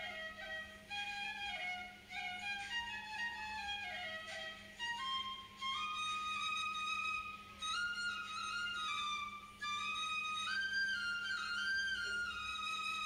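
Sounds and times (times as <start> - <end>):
slow wind instrument melody: 0.0 - 13.0.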